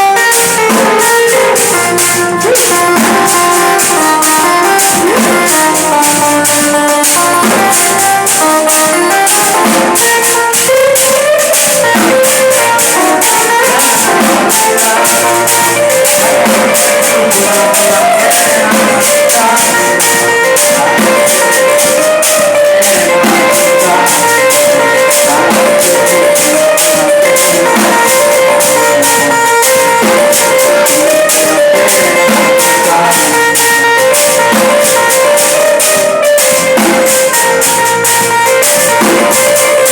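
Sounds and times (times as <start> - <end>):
music with drums and melody: 0.0 - 39.9.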